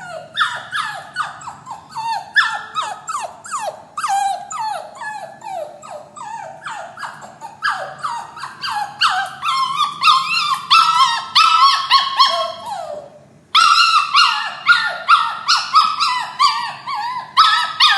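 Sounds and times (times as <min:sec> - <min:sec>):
puppy whining and yelping: 0:00.0 - 0:17.9.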